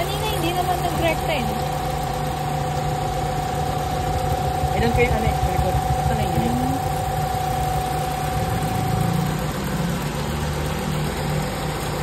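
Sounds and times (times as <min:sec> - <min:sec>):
car engine idling: 0:00.0 - 0:12.0
constant high whine: 0:00.0 - 0:12.0.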